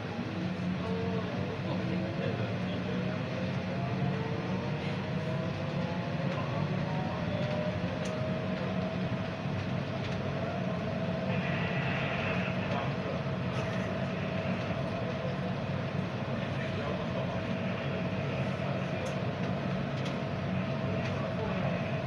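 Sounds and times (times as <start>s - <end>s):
train rumbling on a guideway: 0.0s - 22.0s.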